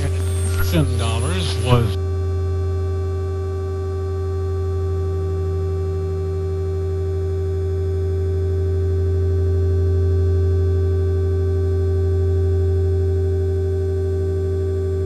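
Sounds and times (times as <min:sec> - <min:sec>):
electronic drone: 0:00.0 - 0:15.0.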